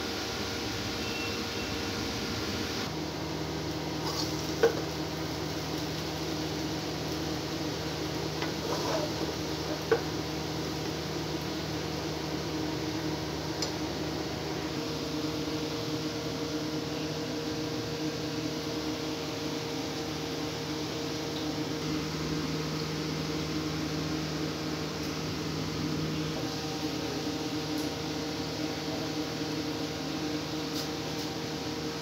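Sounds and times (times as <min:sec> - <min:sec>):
steady hiss with low hum: 0:00.0 - 0:32.0.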